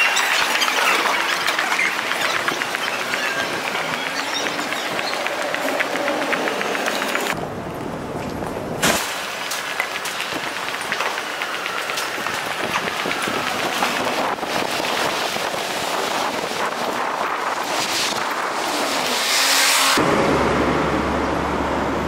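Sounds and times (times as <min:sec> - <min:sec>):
pedestrians passing: 0:00.0 - 0:18.2
road traffic hum: 0:00.0 - 0:22.0.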